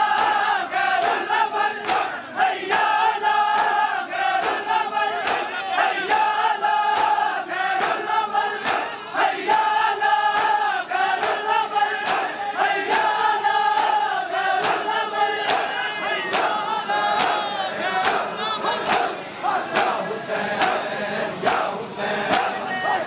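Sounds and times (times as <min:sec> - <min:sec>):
men chanting in unison: 0:00.0 - 0:23.0.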